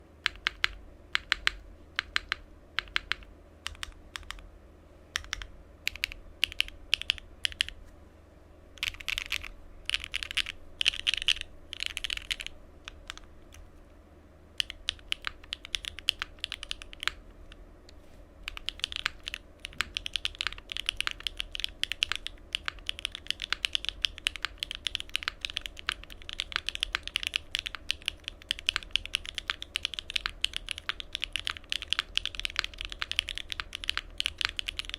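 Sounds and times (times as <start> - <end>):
mechanical keyboard typing: 0.2 - 4.4, 5.2 - 7.8, 8.8 - 13.6, 14.6 - 17.2, 18.4 - 34.9.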